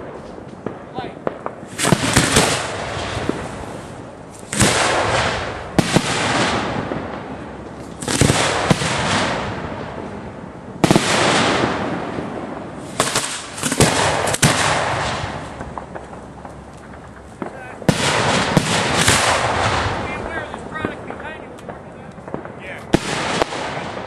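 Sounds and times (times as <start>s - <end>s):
fireworks crackling hiss: 0.0s - 24.0s
fireworks launch reports: 0.0s - 24.0s.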